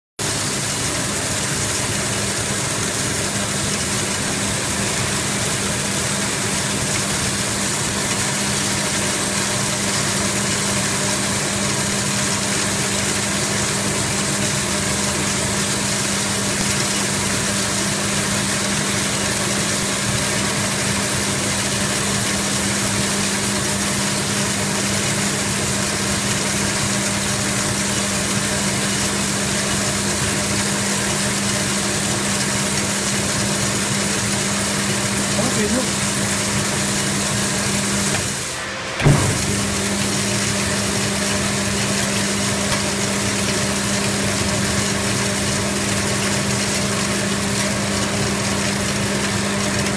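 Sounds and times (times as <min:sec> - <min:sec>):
washing machine motor hum: 0:00.2 - 0:49.9.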